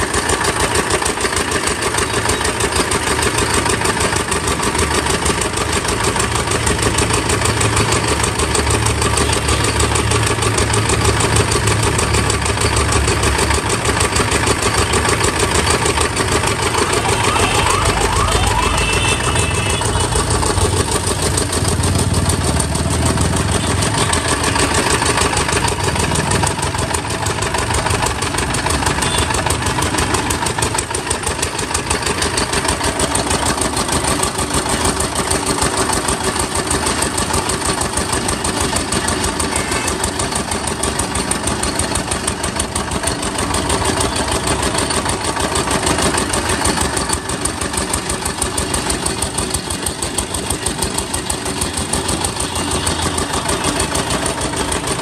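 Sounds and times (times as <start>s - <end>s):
cane crushing machine running: 0.0s - 55.0s.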